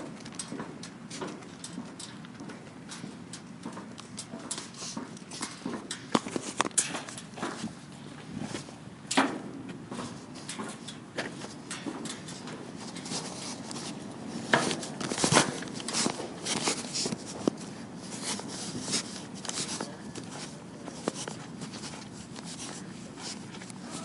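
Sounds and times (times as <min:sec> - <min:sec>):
footsteps of people walking: 0:00.0 - 0:24.0.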